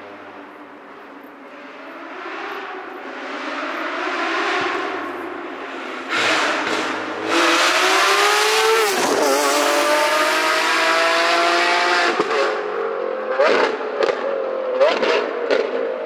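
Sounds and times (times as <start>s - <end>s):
sports car engine accelerating: 0.1s - 16.0s.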